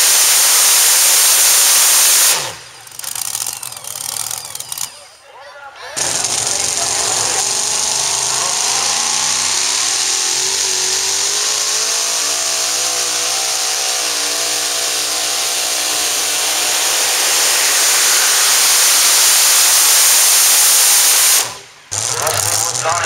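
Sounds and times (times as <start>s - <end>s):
truck engine at full throttle: 0.0s - 5.0s, 6.0s - 23.0s.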